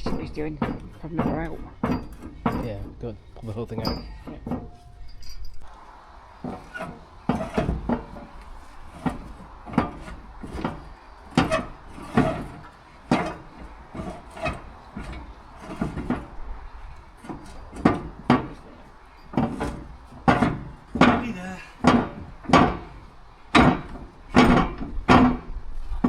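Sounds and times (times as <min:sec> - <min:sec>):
steel tiller knocking and clunking: 0:00.0 - 0:05.8, 0:06.4 - 0:26.0.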